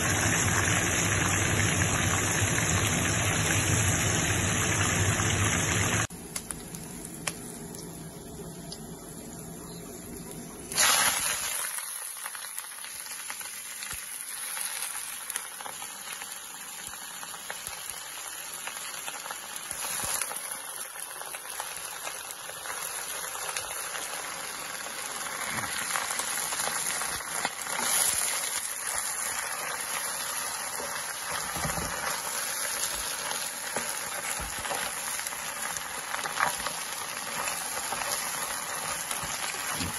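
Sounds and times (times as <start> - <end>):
oil sizzling in a wok: 0.0 - 39.9.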